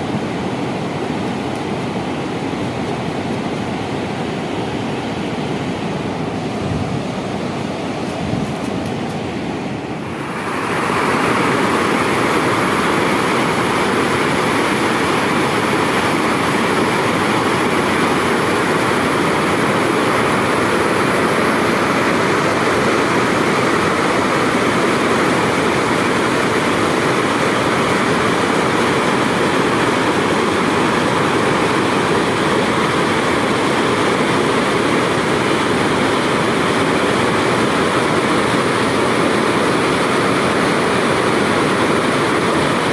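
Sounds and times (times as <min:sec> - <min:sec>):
water rushing over waterfall: 0:00.0 - 0:42.9.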